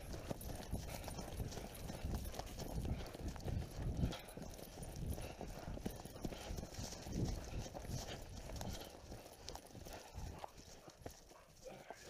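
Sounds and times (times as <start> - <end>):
rustling of leaves and gear: 0.0 - 12.0.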